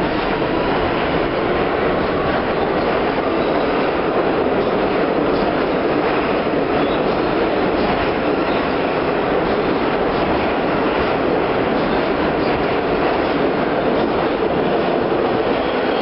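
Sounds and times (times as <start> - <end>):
subway train wheels on rails: 0.0 - 16.0.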